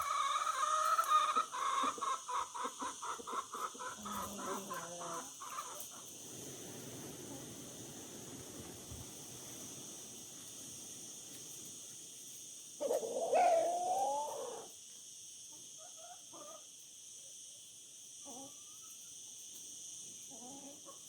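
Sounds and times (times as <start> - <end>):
insect chirring: 0.0 - 21.0.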